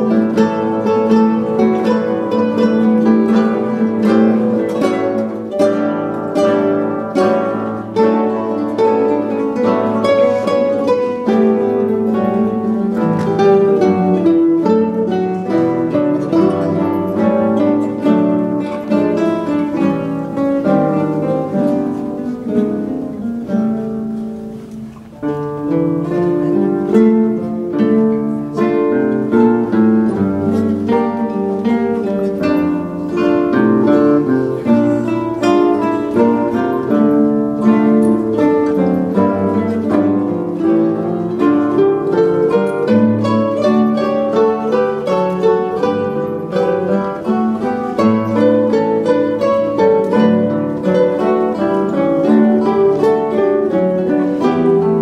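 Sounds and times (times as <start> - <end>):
classical guitar ensemble playing: 0.0 - 55.0.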